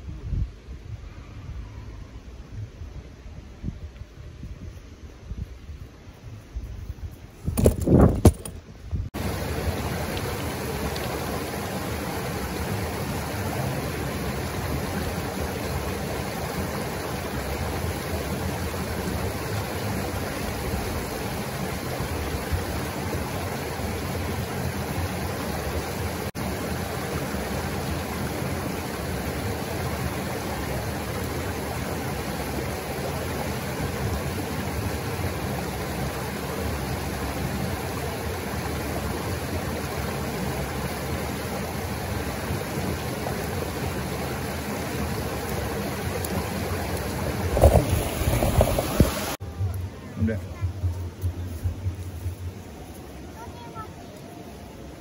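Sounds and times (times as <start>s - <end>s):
river water rushing: 9.2s - 55.0s.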